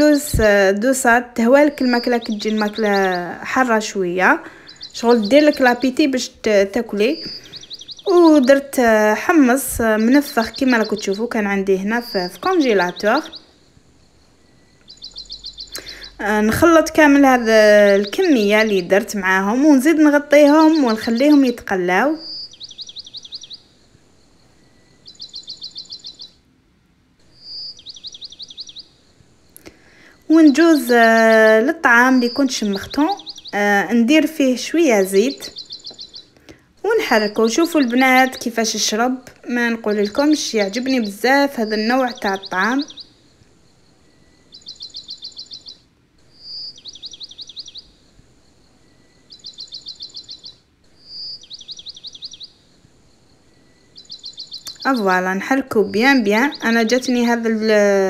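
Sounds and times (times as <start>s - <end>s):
songbird trilling: 0.0s - 26.4s, 27.2s - 58.0s.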